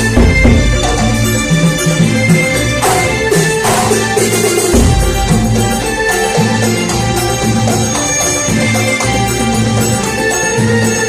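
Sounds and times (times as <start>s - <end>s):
held bass notes: 0.0s - 10.2s
percussion strokes: 0.0s - 11.0s
traditional ensemble playing: 0.0s - 11.0s.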